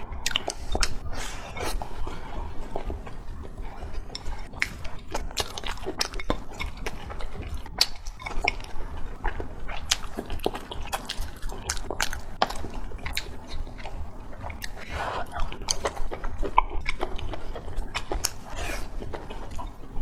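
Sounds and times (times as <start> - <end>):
mouth clicks and smacks: 0.0 - 1.9, 2.6 - 20.0
person chewing food: 0.0 - 20.0.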